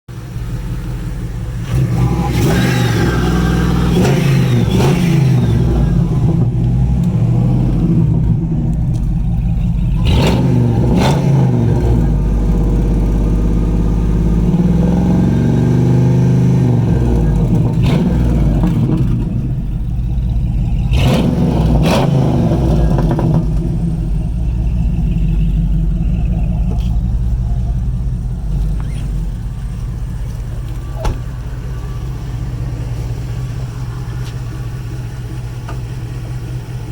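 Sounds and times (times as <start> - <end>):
car engine revving through exhaust: 0.3 - 36.9.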